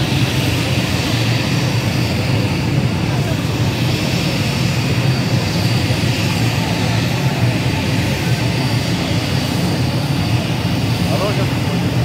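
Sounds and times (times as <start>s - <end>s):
aircraft engines running: 0.0s - 12.0s.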